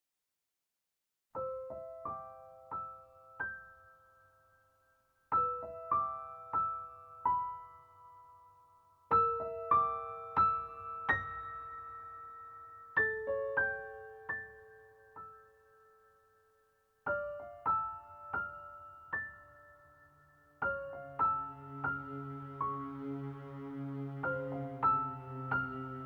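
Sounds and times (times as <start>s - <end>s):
soft piano melody: 1.4s - 26.0s.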